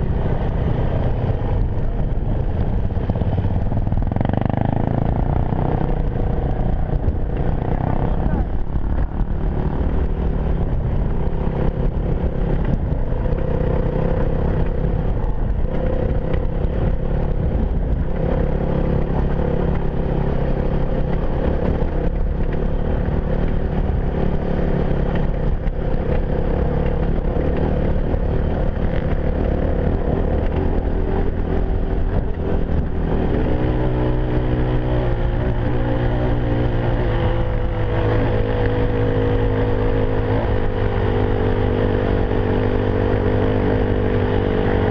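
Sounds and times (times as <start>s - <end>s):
motorcycle engine running: 0.0s - 44.9s
wind and terrain noise: 0.0s - 44.9s.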